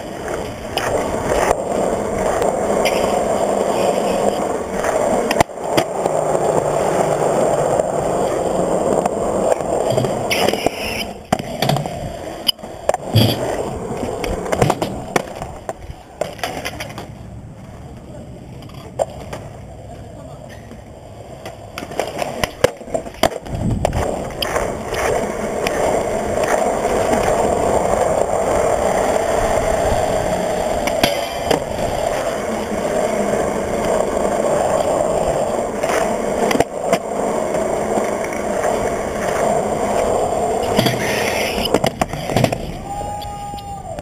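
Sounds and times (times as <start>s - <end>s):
skateboard wheels on concrete: 0.0s - 44.0s.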